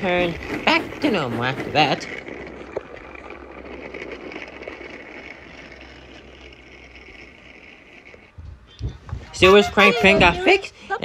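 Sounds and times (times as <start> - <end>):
toy train whirring on track: 0.0 - 11.0.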